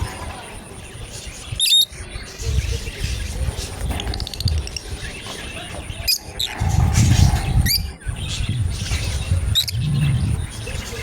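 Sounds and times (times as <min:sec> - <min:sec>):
lovebirds chirping: 0:00.0 - 0:11.0
low rumbling noise: 0:00.0 - 0:11.0.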